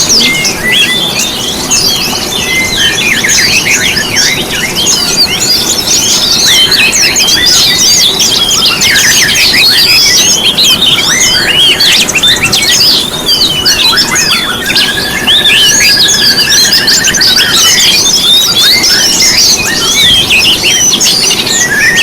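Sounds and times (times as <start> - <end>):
songbirds chirping and twittering: 0.0 - 22.0.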